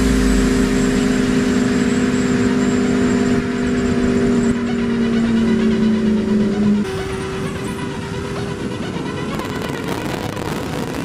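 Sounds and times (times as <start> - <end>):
motorcycle engine droning: 0.0 - 11.0
wind and road noise: 0.0 - 11.0.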